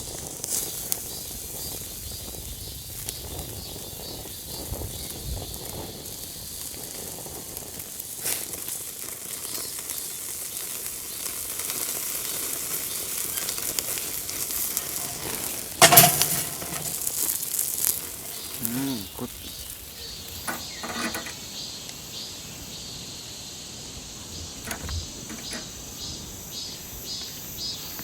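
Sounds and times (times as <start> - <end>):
ribs sizzling on a grill: 0.0 - 28.0.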